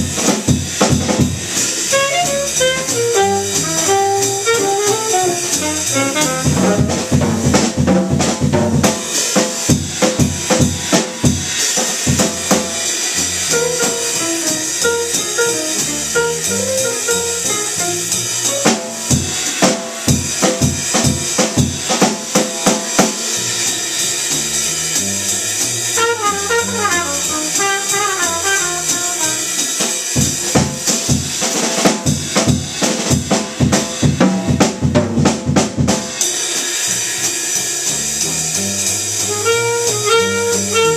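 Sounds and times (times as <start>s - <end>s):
jazz combo playing: 0.0s - 40.9s
sharp drum kit hits: 0.0s - 40.9s.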